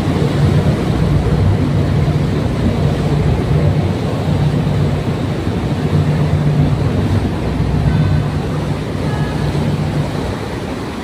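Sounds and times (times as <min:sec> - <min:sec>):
churning propeller wash: 0:00.0 - 0:11.0
tugboat engines droning: 0:00.0 - 0:11.0.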